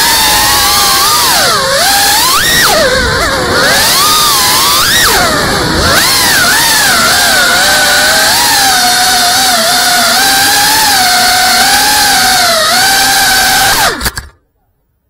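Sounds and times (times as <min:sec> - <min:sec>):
drone motors whining: 0:00.0 - 0:14.4.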